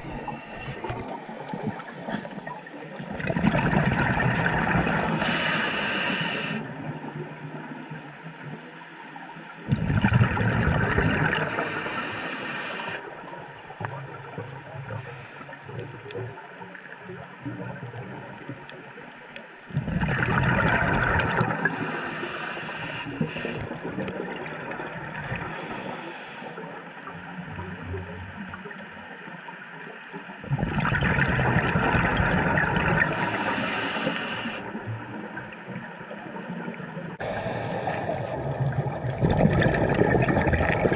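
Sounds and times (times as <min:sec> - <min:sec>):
quiet underwater wash: 0:00.0 - 0:40.9
underwater exhaled bubbles: 0:00.0 - 0:40.9.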